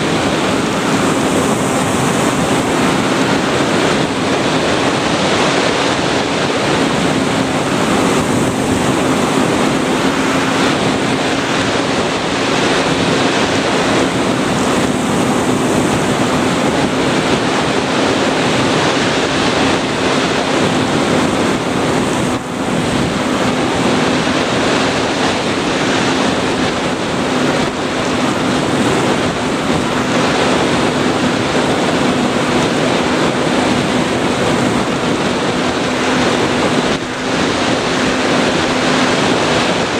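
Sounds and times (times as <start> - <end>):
electric motor and propeller humming: 0.0 - 39.9
wind rushing over microphone: 0.0 - 39.9.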